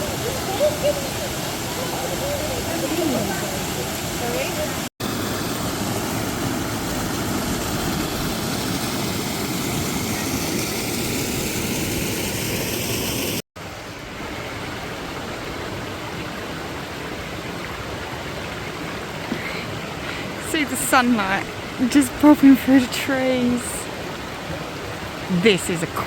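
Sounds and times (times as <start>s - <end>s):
waterfall and fast stream rushing: 0.0s - 26.0s.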